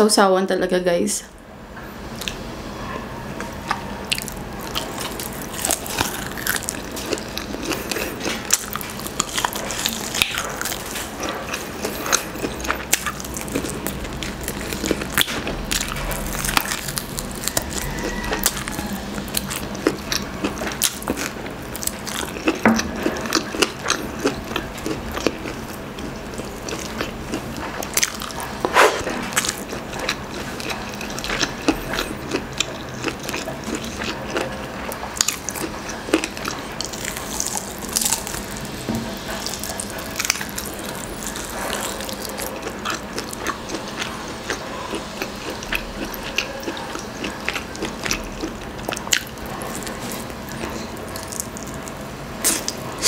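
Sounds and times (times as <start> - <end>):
chewing grilled chicken: 2.1 - 53.0.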